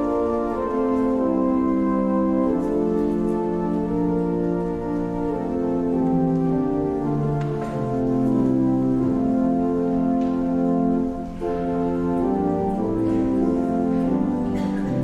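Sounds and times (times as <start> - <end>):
organ playing slow chords: 0.0 - 15.0.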